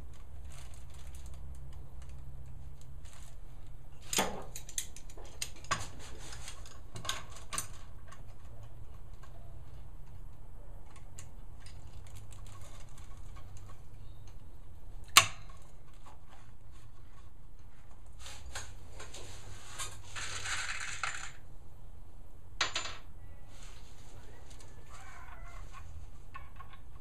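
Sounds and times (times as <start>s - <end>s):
rustling: 0.0s - 21.4s, 23.4s - 27.0s.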